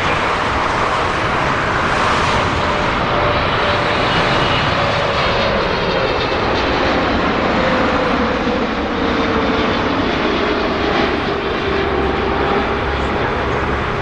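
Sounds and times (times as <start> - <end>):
jet engines with falling whine: 0.0 - 14.0.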